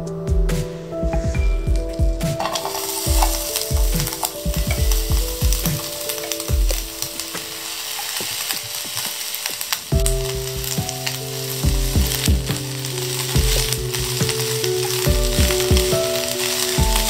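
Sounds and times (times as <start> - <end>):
vegetables sizzling in hot oil: 2.4 - 17.0.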